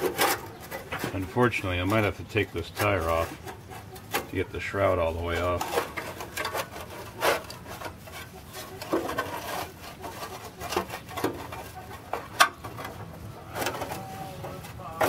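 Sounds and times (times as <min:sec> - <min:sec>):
metal scraping and rubbing: 0:00.0 - 0:15.0.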